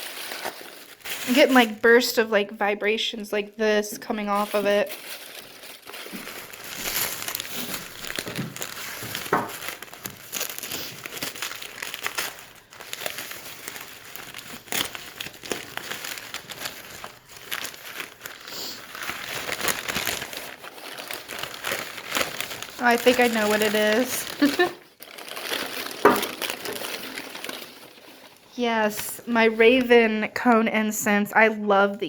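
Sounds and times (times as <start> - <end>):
wrapping paper crinkling: 0.0 - 2.7, 4.0 - 30.5.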